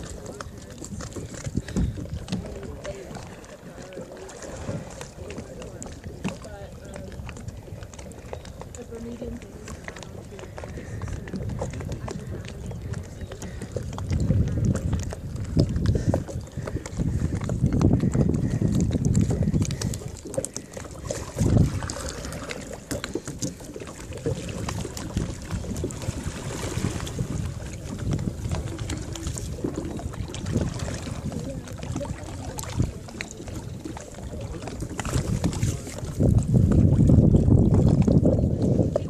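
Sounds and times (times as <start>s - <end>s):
water splashing and dripping: 0.0s - 39.0s
wind rumbling on microphone: 0.0s - 39.0s.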